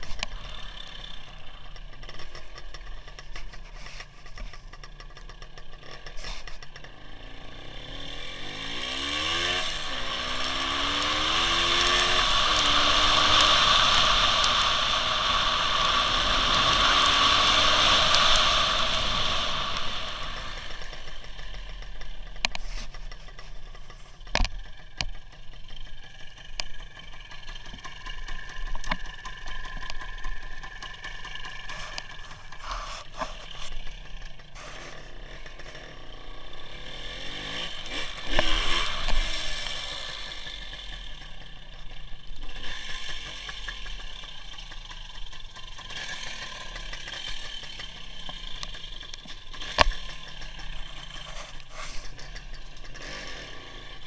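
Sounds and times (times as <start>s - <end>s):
sharp clicks and rattles: 0.0s - 36.4s, 37.4s - 54.0s
motorcycle engine running: 0.0s - 54.0s
road and rain noise: 5.8s - 25.2s, 26.0s - 54.0s.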